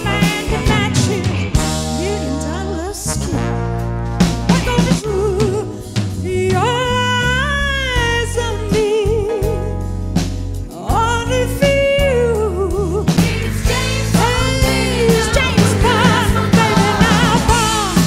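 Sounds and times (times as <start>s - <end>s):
woman singing with vibrato: 0.0s - 3.5s, 4.5s - 9.7s, 10.8s - 18.0s
band with drums bass keyboards: 0.0s - 18.0s.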